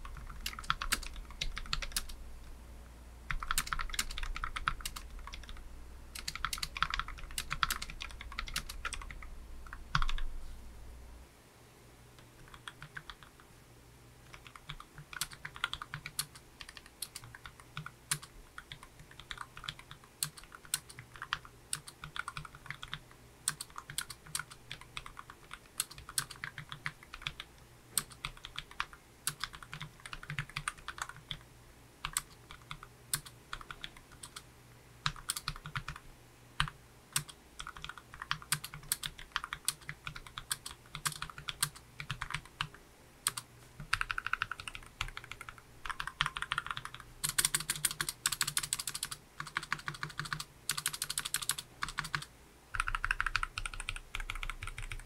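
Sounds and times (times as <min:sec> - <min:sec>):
mechanical keyboard typing: 0:00.0 - 0:02.2, 0:03.3 - 0:05.6, 0:06.2 - 0:10.3, 0:12.3 - 0:13.4, 0:14.3 - 0:31.4, 0:32.0 - 0:34.4, 0:35.0 - 0:36.0, 0:36.6 - 0:55.0.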